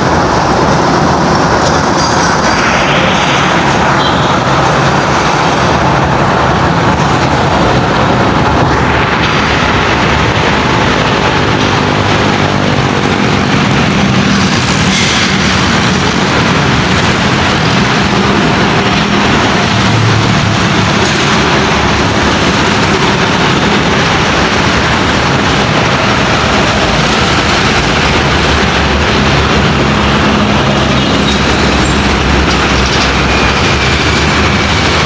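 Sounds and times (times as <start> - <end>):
heavy road traffic: 0.0 - 35.0.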